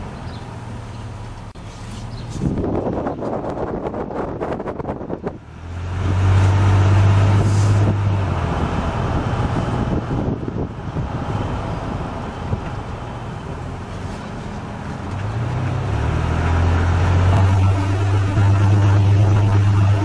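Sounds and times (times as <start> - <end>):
road noise: 0.0 - 20.0
truck exhaust drone: 0.0 - 20.0.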